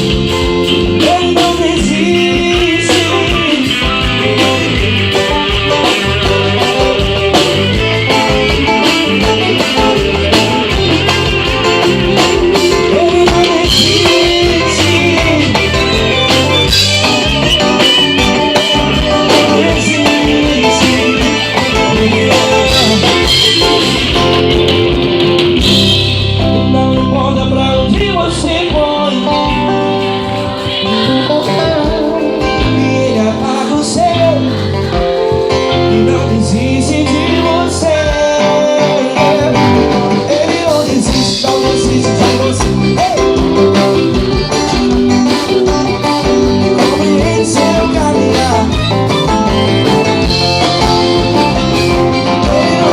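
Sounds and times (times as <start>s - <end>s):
person singing: 0.0s - 25.1s, 26.2s - 52.9s
gospel band playing: 0.0s - 52.9s.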